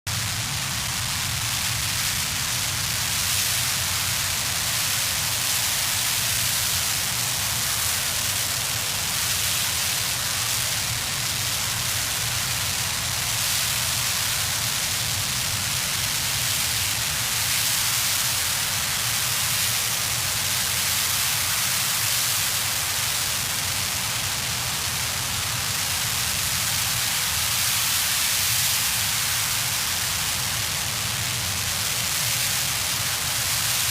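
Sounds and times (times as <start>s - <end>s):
rocket engine roaring hiss: 0.1s - 33.9s.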